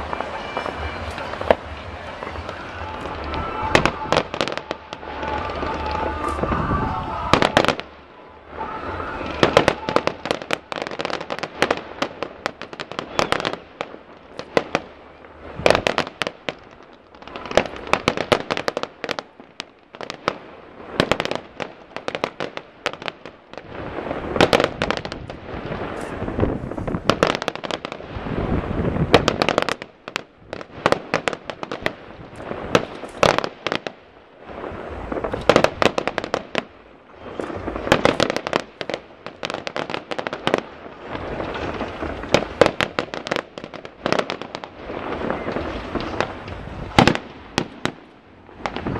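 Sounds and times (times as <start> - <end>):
fireworks bursting and banging: 0.0 - 48.9.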